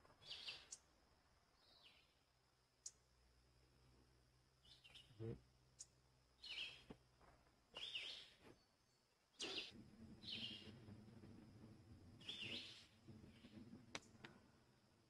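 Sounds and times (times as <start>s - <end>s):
songbird chirping: 0.1s - 7.0s, 7.7s - 14.8s.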